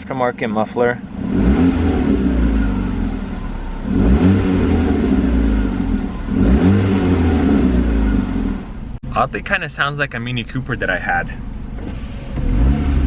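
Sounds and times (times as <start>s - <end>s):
car engine revving: 0.9s - 9.4s, 10.5s - 13.0s.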